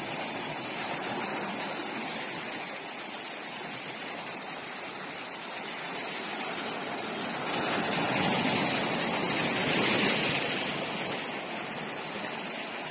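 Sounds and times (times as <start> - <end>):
sea waves washing onto beach: 0.0 - 12.9.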